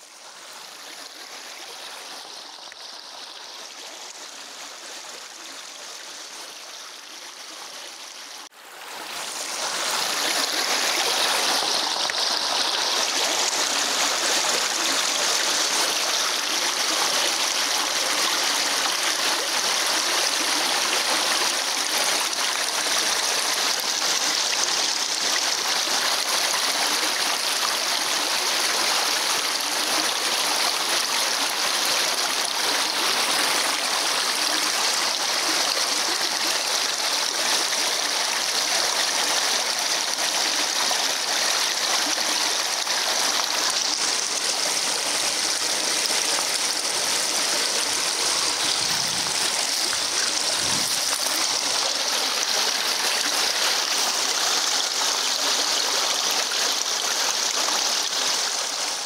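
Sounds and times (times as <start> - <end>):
stream flowing over stones: 0.0 - 59.0.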